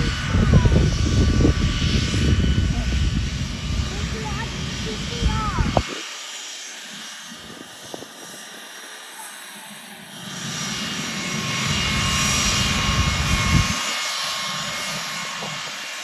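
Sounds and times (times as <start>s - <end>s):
high engine whine: 0.0s - 16.0s
jet airliner passing: 0.0s - 16.0s.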